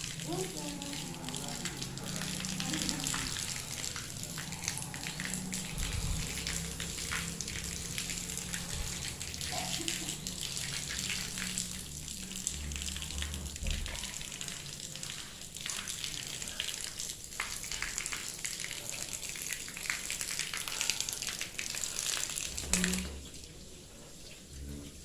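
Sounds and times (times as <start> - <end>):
pattering ash rain: 0.0 - 25.0.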